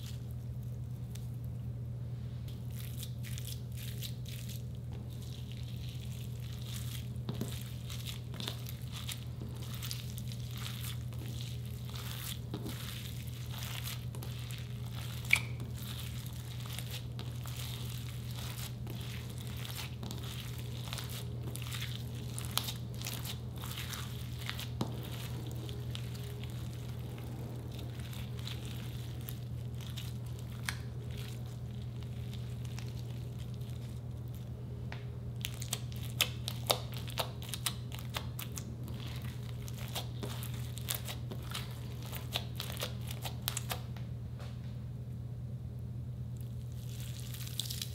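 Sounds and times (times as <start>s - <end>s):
steady low hum: 0.0s - 47.9s
wet slime squelching: 2.5s - 34.6s, 35.3s - 43.9s, 46.4s - 47.9s.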